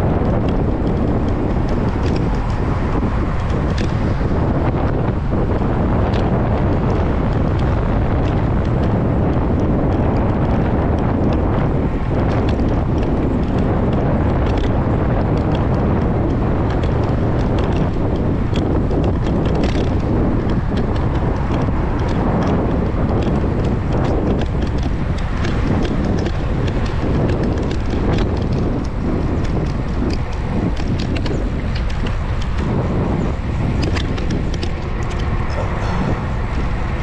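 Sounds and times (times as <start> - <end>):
bicycle clicks and rattles: 0.0 - 37.0
wind buffeting microphone: 0.0 - 37.0.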